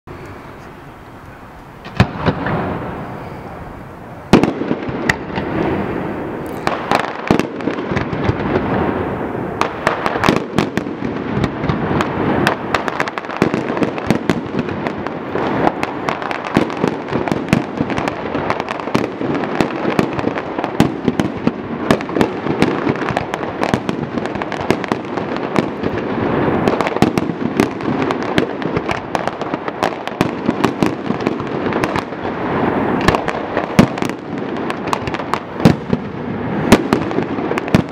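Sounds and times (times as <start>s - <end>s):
fireworks crackle: 0.1s - 37.9s
fireworks sharp bangs: 0.1s - 37.9s.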